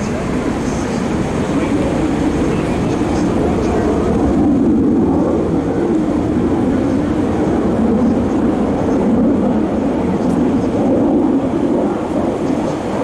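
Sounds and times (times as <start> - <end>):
aircraft engines roaring: 0.0 - 13.0.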